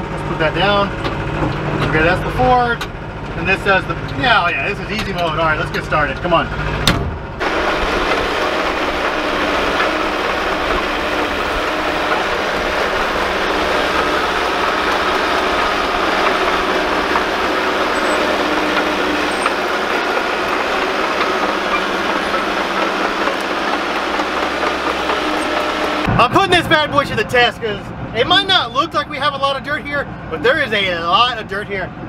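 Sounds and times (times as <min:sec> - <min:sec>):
steel tracks clanking: 0:00.0 - 0:29.6
diesel engine running: 0:00.0 - 0:32.0.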